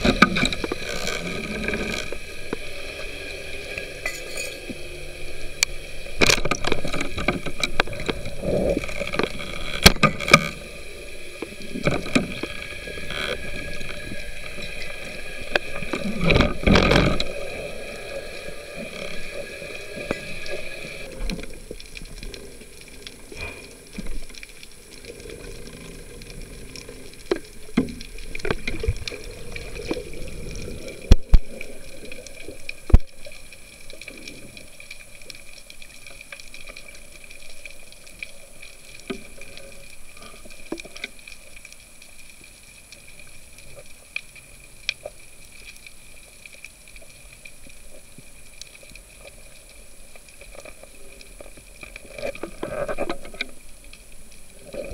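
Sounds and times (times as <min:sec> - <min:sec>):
underwater water rush: 0:00.0 - 0:54.9.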